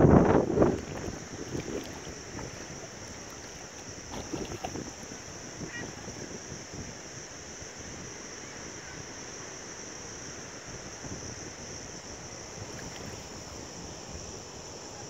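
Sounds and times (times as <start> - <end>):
rippling water: 0.0 - 7.8, 10.6 - 15.0
wind buffeting the microphone: 0.0 - 9.2, 10.3 - 15.0
high-pitched hiss: 0.0 - 15.0.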